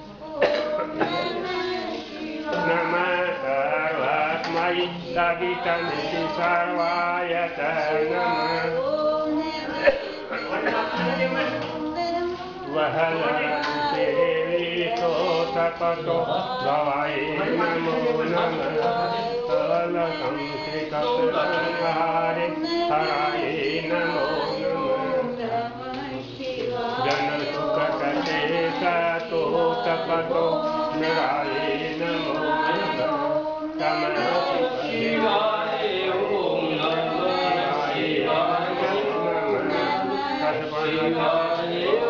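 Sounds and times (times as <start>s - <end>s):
voices chanting together: 0.0s - 42.0s.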